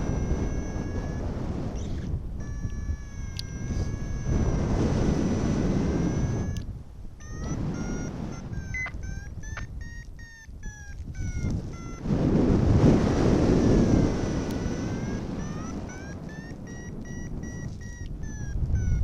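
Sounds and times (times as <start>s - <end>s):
variometer short beeps: 0.0s - 19.0s
variometer steady tone: 0.0s - 19.0s
wind rushing over microphone: 0.0s - 19.0s.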